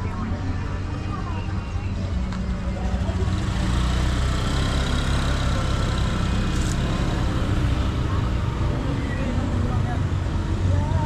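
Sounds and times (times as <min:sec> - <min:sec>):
street traffic noise: 0:00.0 - 0:11.0
vehicle engine humming: 0:00.0 - 0:11.0.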